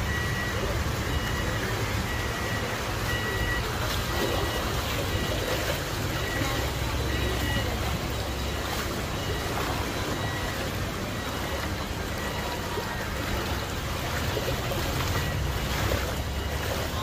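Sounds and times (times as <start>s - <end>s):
floodwater sloshing: 0.0s - 17.0s.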